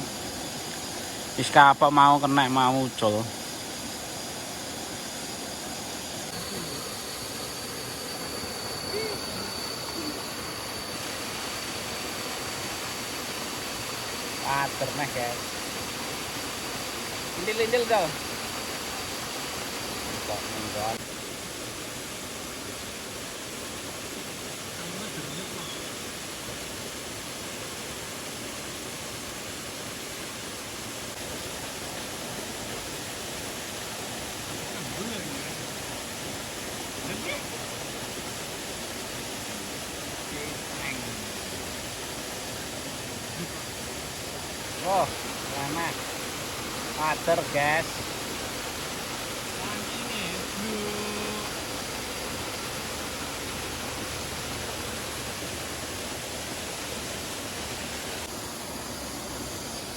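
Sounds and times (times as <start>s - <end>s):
thin high whine: 0.0s - 28.5s, 29.4s - 59.9s
river water rushing: 0.0s - 59.9s.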